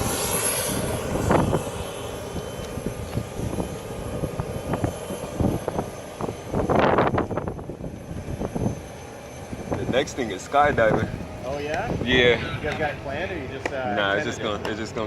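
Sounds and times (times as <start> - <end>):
aircraft engine drone: 0.0 - 15.0
rumbling buffeting noise: 0.0 - 15.0.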